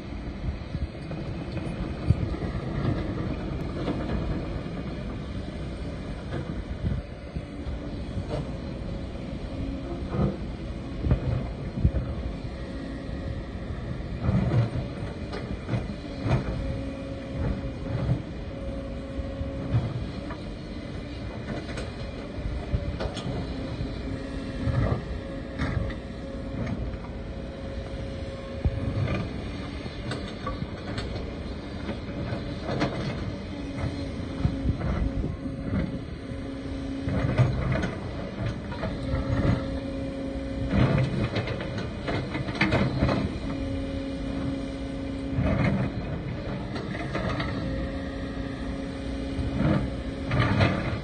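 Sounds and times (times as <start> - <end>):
excavator diesel engine: 0.0 - 51.0.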